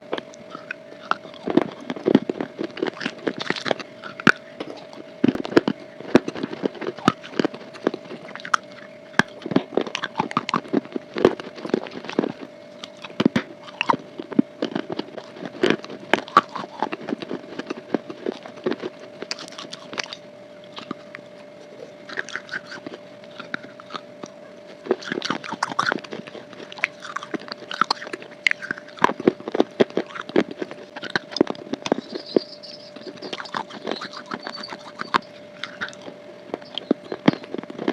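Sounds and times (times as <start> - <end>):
crunching and chewing: 0.0 - 37.9
steady hum: 0.0 - 37.9.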